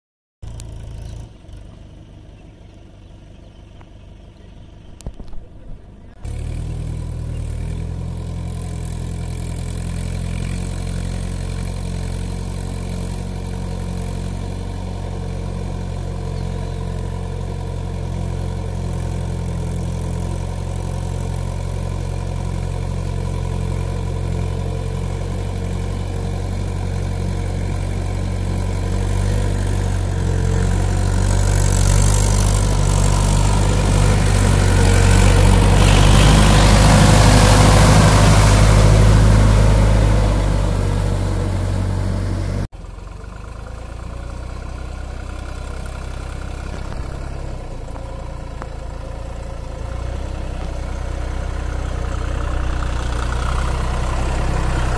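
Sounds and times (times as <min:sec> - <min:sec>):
tractor diesel engine running: 0:00.4 - 0:54.9.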